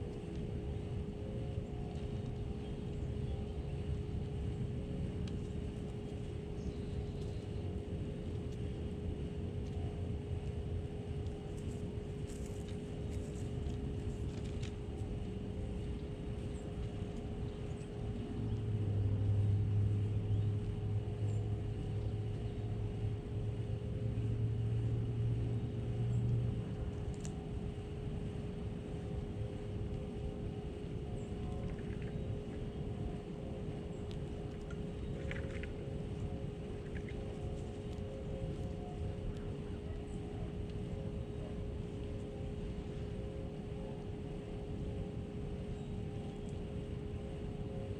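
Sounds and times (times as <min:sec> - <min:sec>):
constant hum: 0:00.0 - 0:47.9
deep drone: 0:00.0 - 0:47.9
low outdoor rumble: 0:00.0 - 0:47.9.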